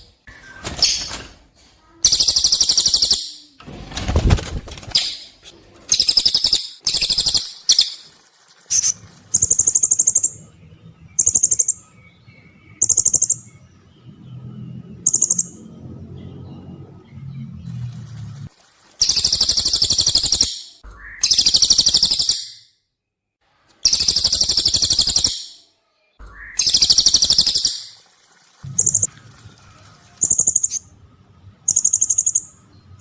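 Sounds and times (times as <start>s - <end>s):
small birds trilling: 0.0s - 22.6s, 23.8s - 30.9s.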